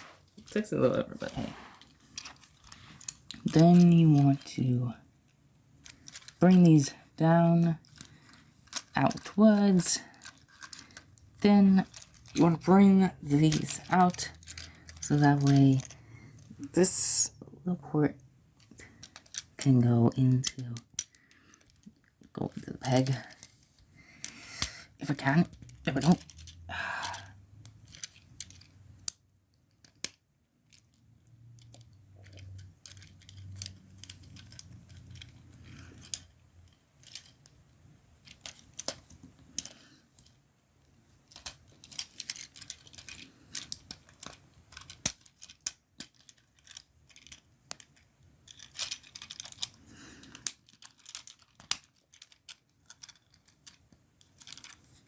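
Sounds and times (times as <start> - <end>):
plastic toy parts clicking: 5.8 - 16.5, 18.6 - 23.5, 24.2 - 55.0.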